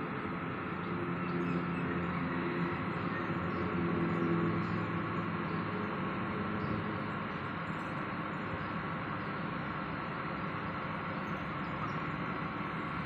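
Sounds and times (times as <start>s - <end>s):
distant diesel train humming: 0.0s - 13.0s.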